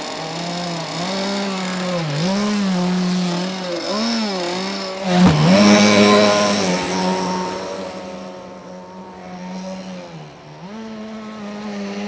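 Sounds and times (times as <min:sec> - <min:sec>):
small two-stroke engine revving: 0:00.0 - 0:12.0.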